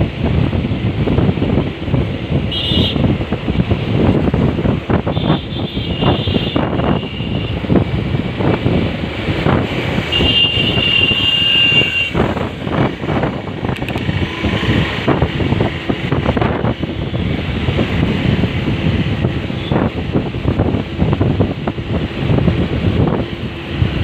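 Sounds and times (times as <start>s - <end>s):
road traffic rumble: 0.0s - 24.0s
wind buffeting microphone: 0.0s - 24.0s.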